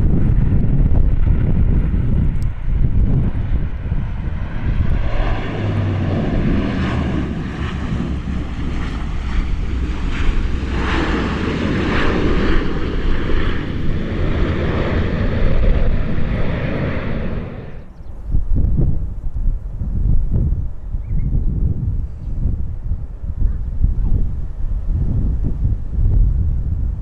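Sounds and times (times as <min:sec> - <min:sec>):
airliner engines: 0:00.0 - 0:27.0
wind buffeting microphone: 0:00.0 - 0:27.0.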